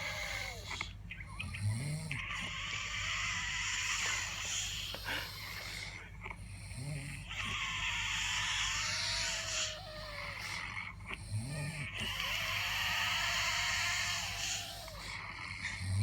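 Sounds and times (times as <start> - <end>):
man snoring: 0.0 - 0.7, 1.5 - 2.7, 3.8 - 8.0, 8.8 - 16.0.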